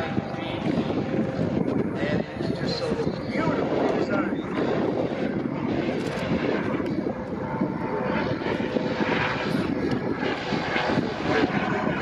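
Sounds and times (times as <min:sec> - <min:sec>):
helicopter flying by: 0:00.0 - 0:12.0.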